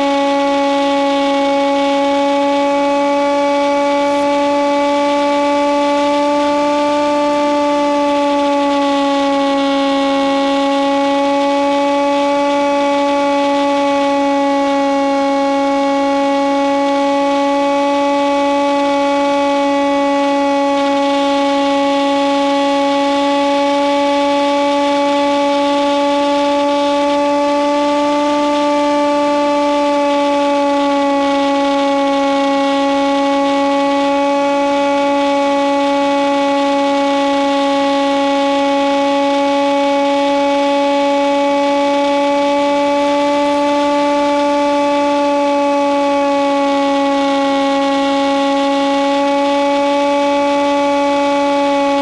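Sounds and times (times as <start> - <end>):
model plane motor whining: 0.0 - 52.0.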